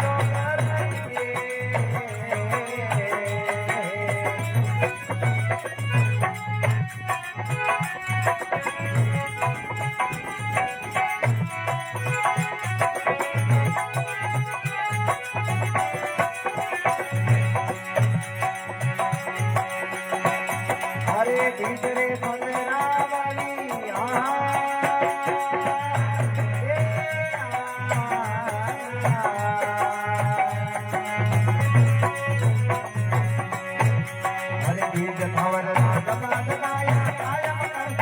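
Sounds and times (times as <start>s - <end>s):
hand drum rhythm: 0.0s - 38.0s.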